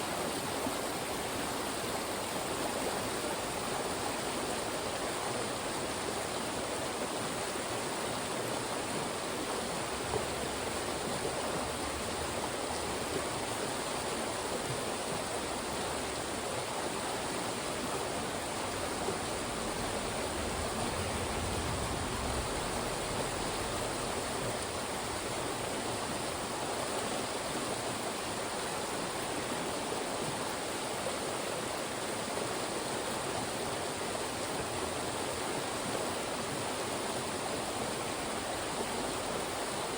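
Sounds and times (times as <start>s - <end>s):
mountain stream rushing over rocks: 0.0s - 39.9s.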